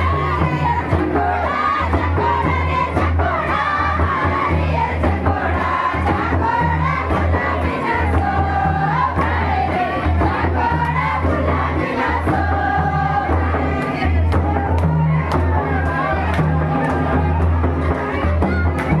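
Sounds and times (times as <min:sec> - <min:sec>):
crowd noise: 0:00.0 - 0:19.0
deep steady drum beat: 0:00.0 - 0:19.0
young people singing in chorus: 0:00.0 - 0:19.0.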